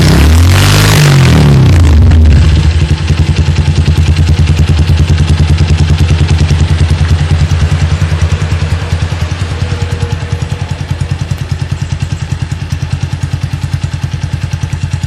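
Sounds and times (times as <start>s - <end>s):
motorcycle engine idling: 1.1s - 15.0s.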